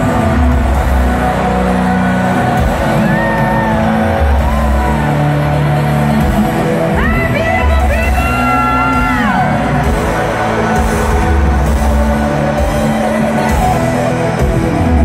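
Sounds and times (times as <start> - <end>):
crowd cheering and whooping: 0.0 - 15.0
loud pop-rock music: 0.0 - 15.0.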